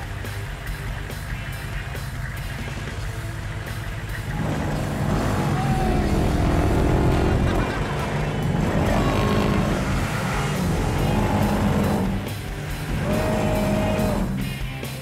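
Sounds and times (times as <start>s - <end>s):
deep subwoofer bass rumble: 0.0s - 14.7s.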